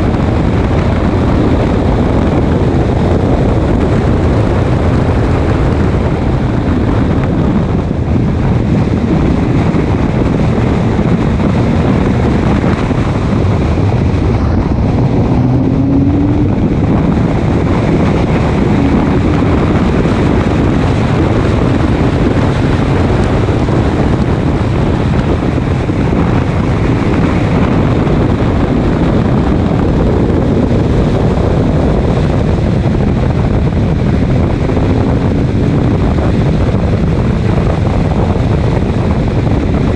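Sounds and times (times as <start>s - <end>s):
race car engine at speed: 0.0s - 39.9s
wind noise on microphone: 0.0s - 39.9s.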